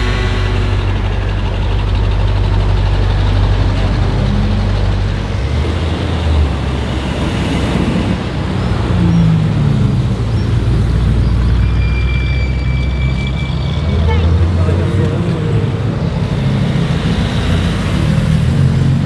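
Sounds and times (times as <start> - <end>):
car engine idling: 0.0 - 11.6, 13.9 - 19.0
street traffic noise: 0.0 - 19.0.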